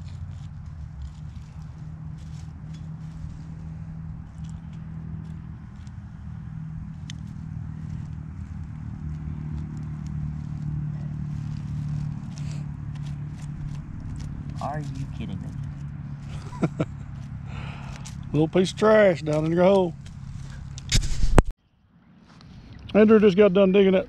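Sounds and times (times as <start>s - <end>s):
hands digging in soil: 0.0s - 6.3s, 6.9s - 21.4s
low mechanical hum: 0.0s - 24.0s.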